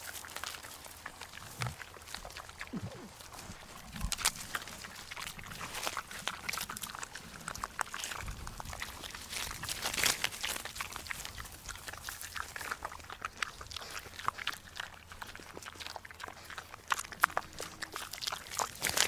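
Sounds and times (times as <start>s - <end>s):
monkey chewing food: 0.0s - 19.0s.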